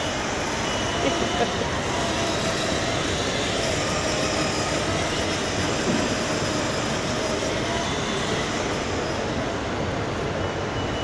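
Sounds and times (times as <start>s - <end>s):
toy car electric motor: 0.0s - 10.4s.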